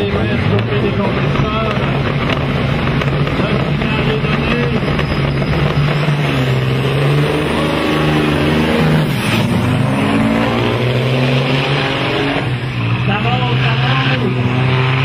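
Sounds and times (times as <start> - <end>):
diesel truck engine accelerating: 0.0 - 15.0.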